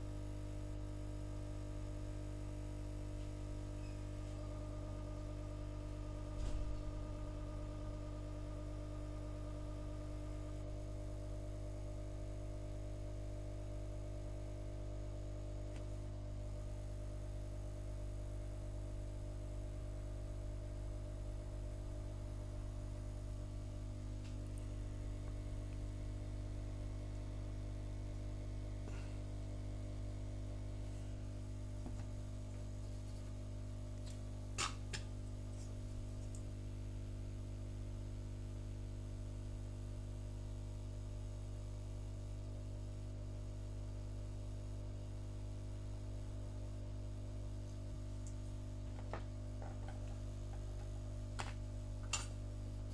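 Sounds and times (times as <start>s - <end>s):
electrical mains hum: 0.0s - 52.9s.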